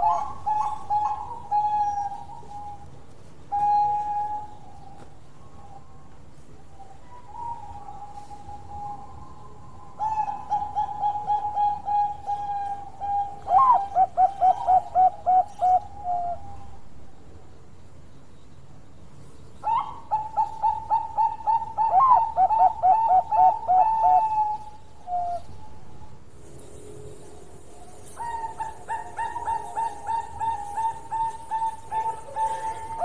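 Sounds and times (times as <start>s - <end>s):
dove cooing: 0.0s - 6.1s, 6.8s - 16.8s, 19.6s - 25.8s, 27.0s - 33.0s.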